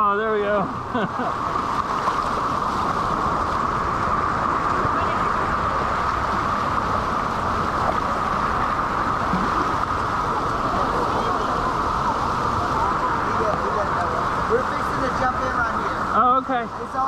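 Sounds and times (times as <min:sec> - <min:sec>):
whitewater rapids roaring: 0:00.2 - 0:17.0.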